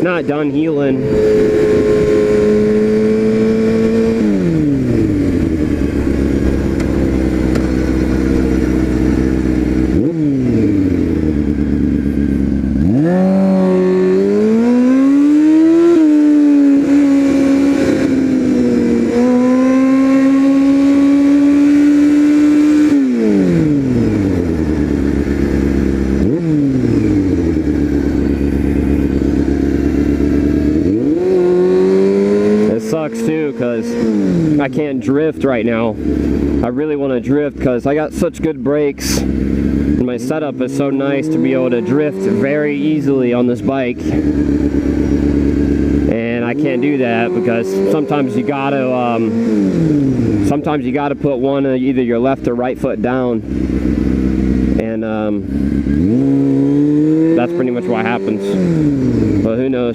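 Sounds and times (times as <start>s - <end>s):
motorcycle engine: 0.0s - 59.9s.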